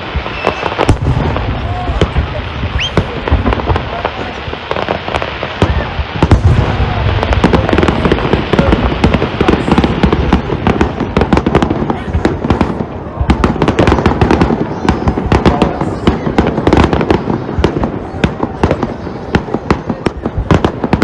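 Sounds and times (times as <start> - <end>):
fireworks booming bursts: 0.0 - 21.0
fireworks dense crackling: 0.0 - 21.0
fireworks sharp bangs: 0.0 - 21.0.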